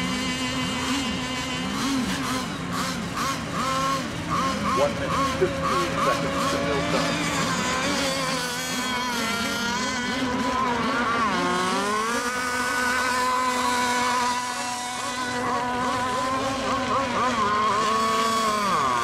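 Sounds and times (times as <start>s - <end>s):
model boat engines whining: 0.0s - 19.0s.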